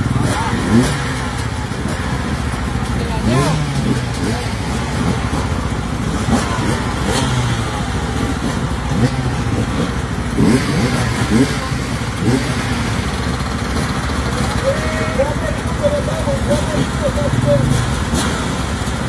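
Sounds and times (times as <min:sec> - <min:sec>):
dirt bikes revving: 0:00.0 - 0:19.0.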